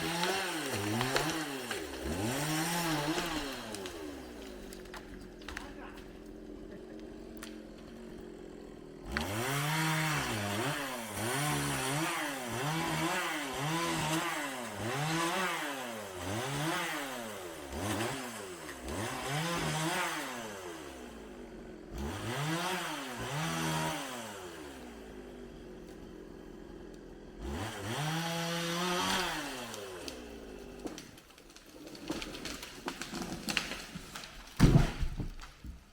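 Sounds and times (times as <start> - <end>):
chainsaw revving: 0.0 - 34.6.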